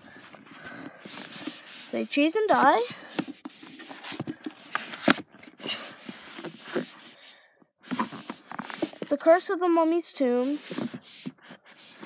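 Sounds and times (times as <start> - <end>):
books scraping and rustling: 0.0 - 9.5, 10.2 - 12.0.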